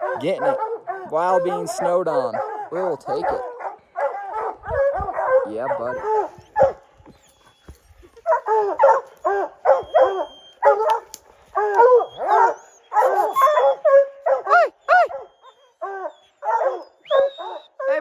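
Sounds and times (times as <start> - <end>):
dogs barking: 0.0 - 7.1, 8.2 - 18.0.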